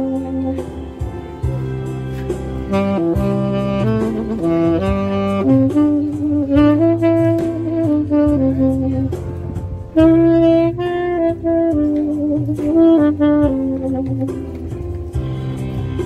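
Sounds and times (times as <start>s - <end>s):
tenor saxophone slow melody: 0.0s - 16.0s.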